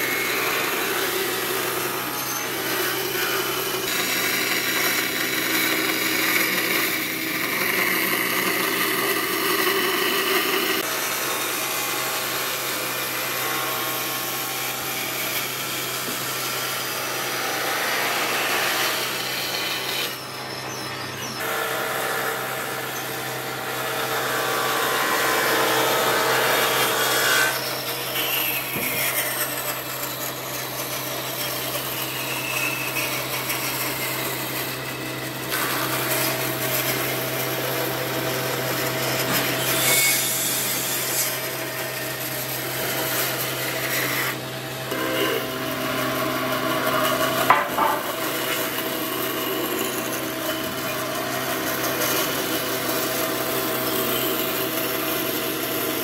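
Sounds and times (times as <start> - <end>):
bandsaw motor hum: 0.0 - 56.0.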